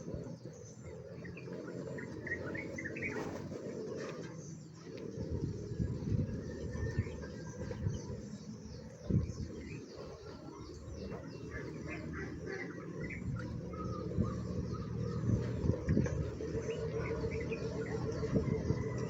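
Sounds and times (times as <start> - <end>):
poultry chirping and calling: 0.8 - 19.0.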